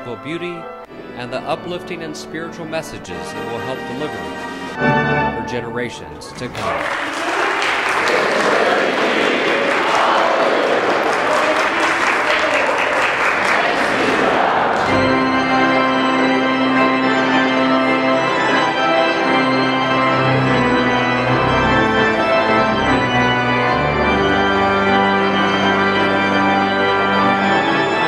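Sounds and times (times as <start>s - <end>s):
pipe organ playing chords: 0.0s - 6.8s, 7.4s - 28.0s.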